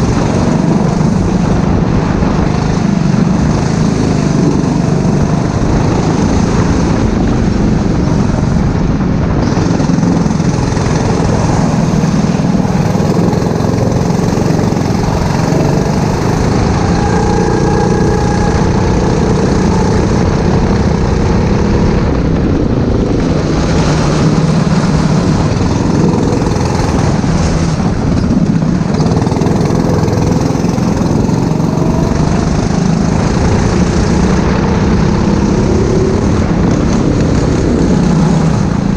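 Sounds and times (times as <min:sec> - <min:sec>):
kart engine revving: 0:00.0 - 0:38.9
loud rushing noise: 0:00.0 - 0:38.9.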